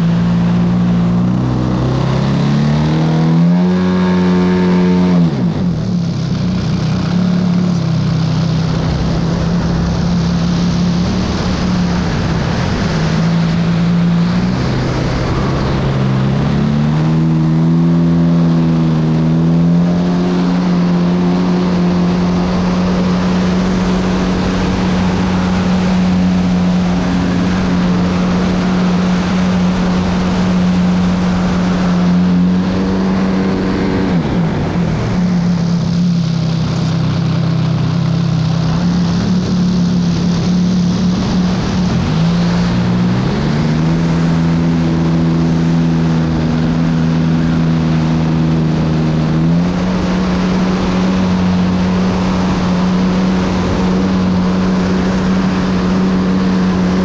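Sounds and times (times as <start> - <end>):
rush of wind: 0.0 - 57.0.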